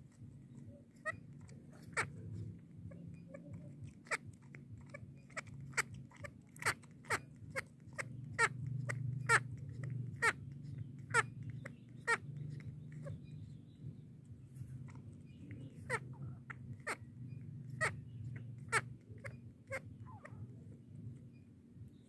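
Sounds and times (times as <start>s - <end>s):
baby monkey squeaking: 0.1s - 22.0s.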